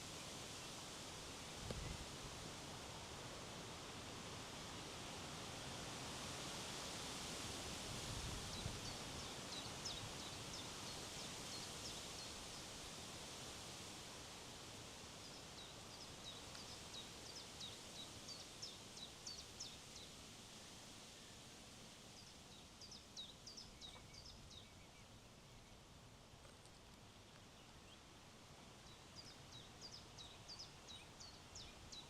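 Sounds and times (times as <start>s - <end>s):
wind rustling through trees: 0.0s - 32.0s.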